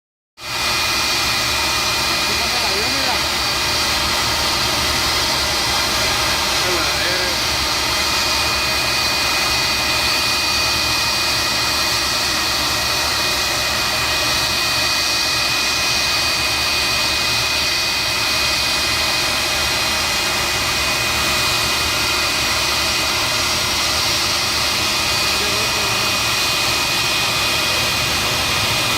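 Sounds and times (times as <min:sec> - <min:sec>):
high-pitched turbine whines: 0:00.4 - 0:28.9
jet turbine running: 0:00.4 - 0:28.9.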